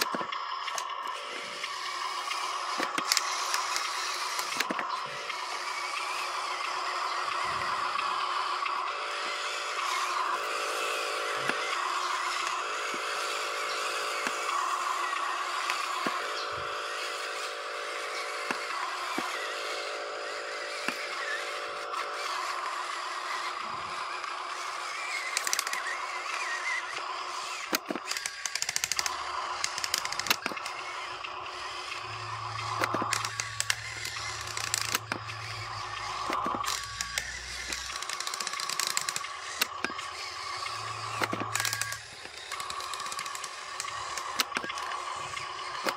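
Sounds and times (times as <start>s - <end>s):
small clicks and scrapes: 0.0s - 45.9s
steady high hum: 0.0s - 45.9s
toy truck motor whining: 0.0s - 45.9s.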